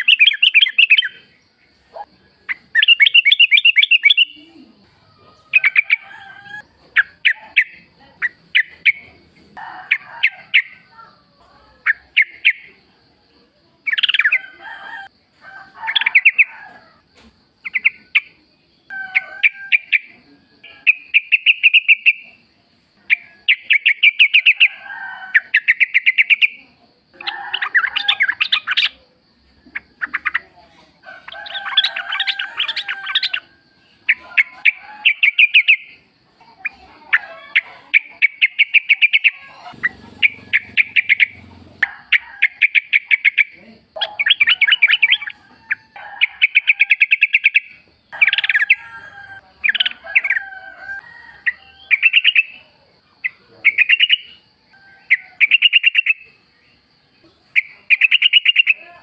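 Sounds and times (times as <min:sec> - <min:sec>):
birds chattering: 0:00.0 - 0:10.8, 0:11.8 - 0:12.8, 0:17.6 - 0:22.4, 0:23.0 - 0:59.0.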